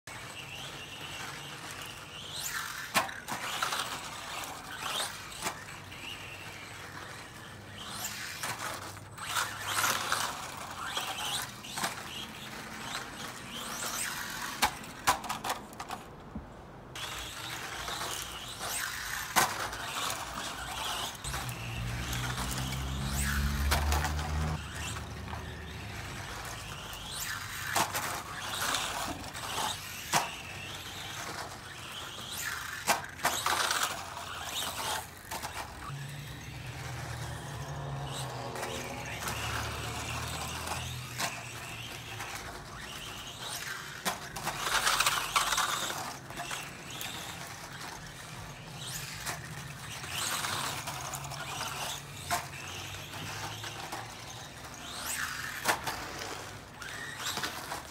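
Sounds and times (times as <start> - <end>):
rc truck motor whining: 0.1 - 16.2, 16.9 - 57.9
rc truck clacking on bumps: 0.1 - 57.9.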